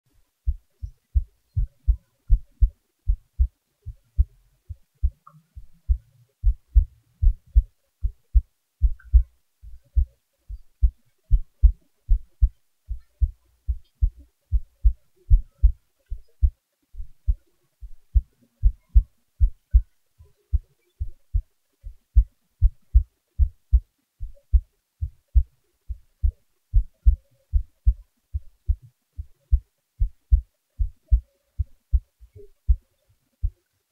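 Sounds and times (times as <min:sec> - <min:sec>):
heartbeat thumps: 0:00.4 - 0:19.9, 0:20.5 - 0:33.6.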